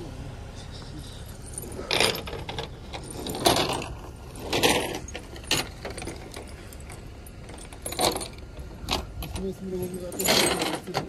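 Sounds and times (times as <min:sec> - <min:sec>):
metal snow chains clinking: 0:00.8 - 0:11.0.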